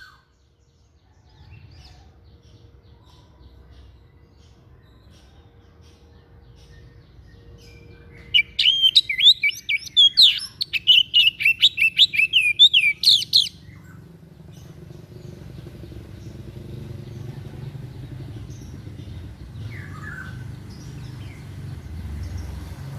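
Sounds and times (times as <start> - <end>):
songbird chirping: 0.0 - 22.9
low steady rumble: 1.5 - 22.9.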